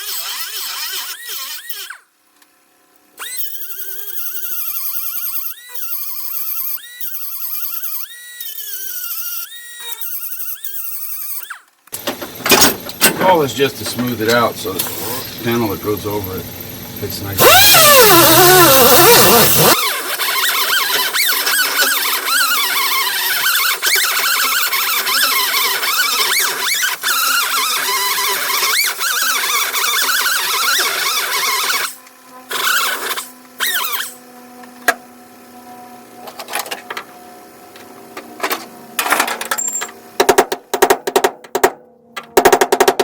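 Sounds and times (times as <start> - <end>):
power tool whining on sheet metal: 0.0 - 2.2, 3.2 - 40.3.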